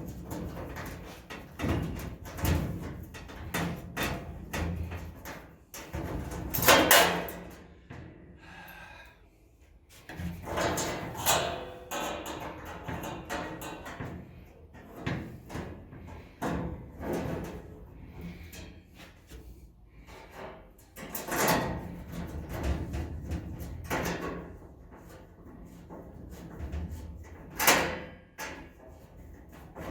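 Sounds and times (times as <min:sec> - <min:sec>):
parts knocking and clattering: 0:00.0 - 0:08.4, 0:10.0 - 0:19.4, 0:20.0 - 0:29.9.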